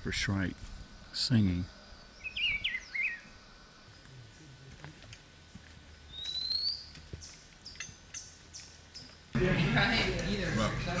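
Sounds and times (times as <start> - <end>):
wild birds singing: 0.0 - 9.4.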